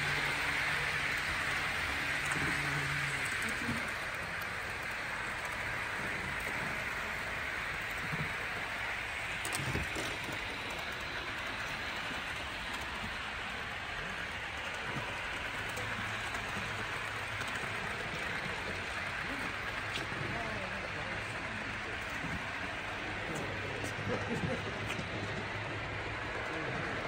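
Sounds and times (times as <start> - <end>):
model train rattling on track: 0.0 - 27.0.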